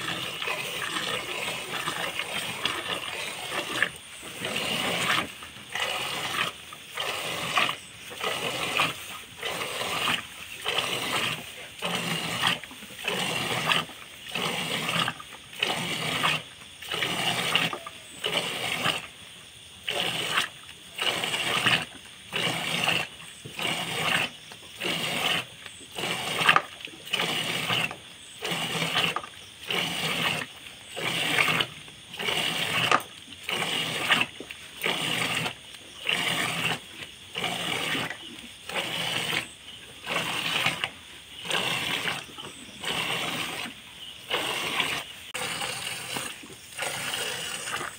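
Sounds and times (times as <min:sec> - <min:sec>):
milk squirting into bucket: 0:00.0 - 0:47.9.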